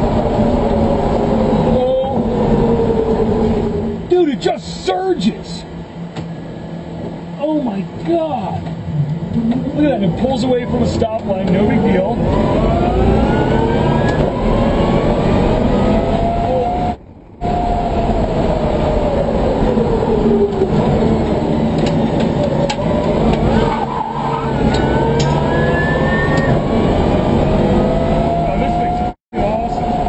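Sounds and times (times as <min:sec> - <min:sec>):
road and tyre noise: 0:00.0 - 0:30.0.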